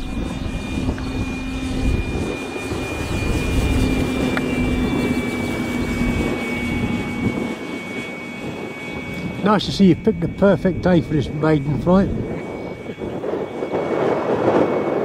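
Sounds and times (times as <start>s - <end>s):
model airplane motor droning: 0.0s - 15.0s
wind buffeting microphone: 0.0s - 15.0s.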